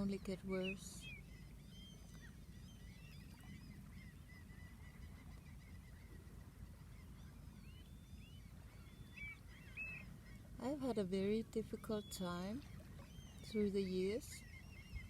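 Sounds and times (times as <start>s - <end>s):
distant birds chirping and honking: 0.0s - 15.0s.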